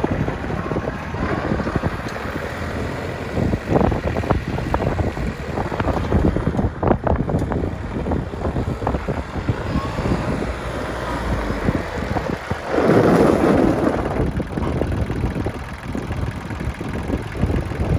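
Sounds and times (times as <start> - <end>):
tractor diesel engine running: 0.0 - 17.9
wind buffeting microphone: 0.0 - 17.9.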